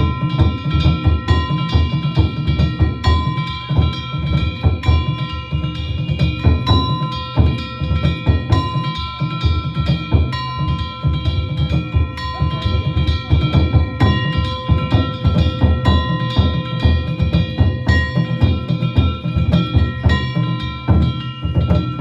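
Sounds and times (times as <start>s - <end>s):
drums in fast rhythm: 0.0s - 22.0s
ringing hand gongs: 0.0s - 22.0s.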